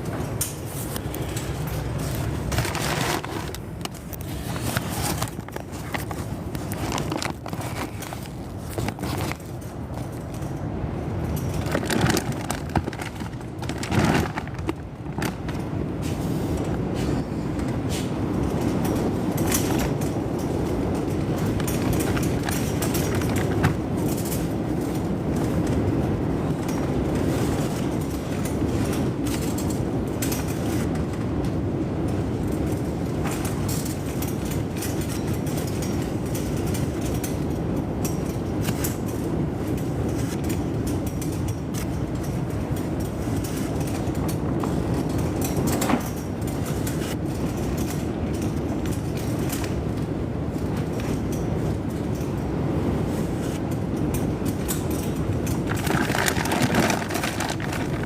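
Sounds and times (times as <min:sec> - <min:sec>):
strong wind buffeting microphone: 0:00.0 - 0:58.0.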